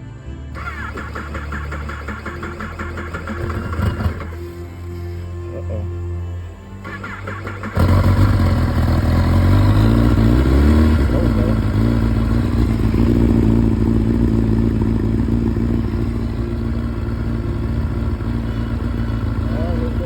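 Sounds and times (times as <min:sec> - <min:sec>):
motorcycle engine starting and idling: 0:00.5 - 0:20.0.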